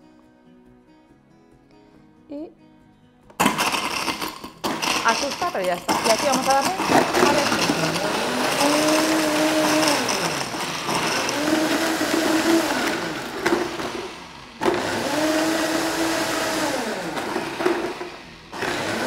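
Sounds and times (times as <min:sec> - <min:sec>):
blender crushing ice: 0:03.4 - 0:19.0.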